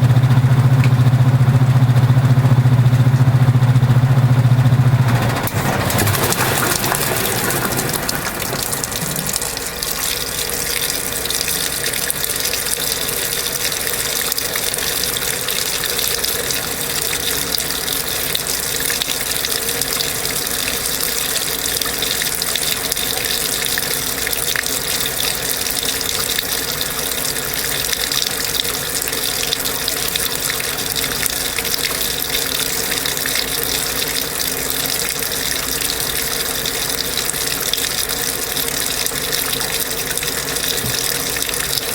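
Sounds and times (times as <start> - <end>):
faint machine hum: 0.0 - 41.9
water rushing through hoses: 5.0 - 41.9.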